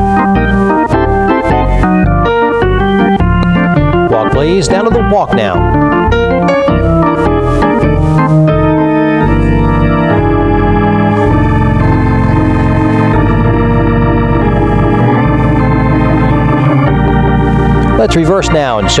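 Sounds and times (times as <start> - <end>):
organ playing held chords: 0.0 - 19.0.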